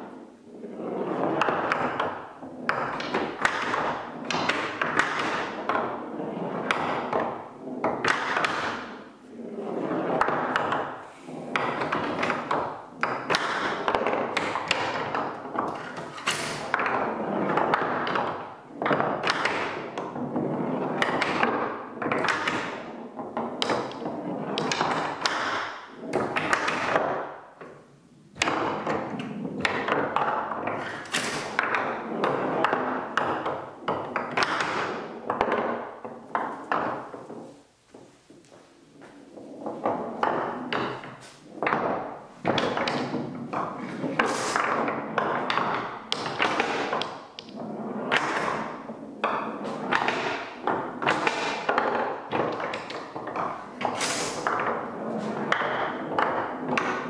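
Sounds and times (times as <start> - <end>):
marbles rolling on wood: 0.5 - 57.0.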